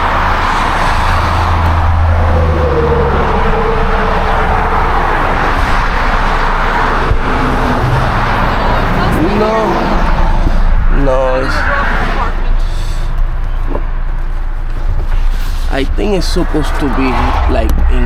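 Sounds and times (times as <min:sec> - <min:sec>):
passing vehicle rumble: 0:00.0 - 0:18.0
road traffic noise: 0:00.0 - 0:18.0.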